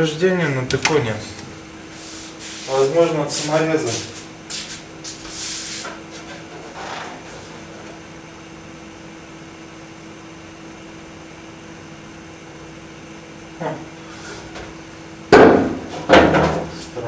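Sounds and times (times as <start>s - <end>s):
electrical hum with hiss: 0.0s - 17.0s.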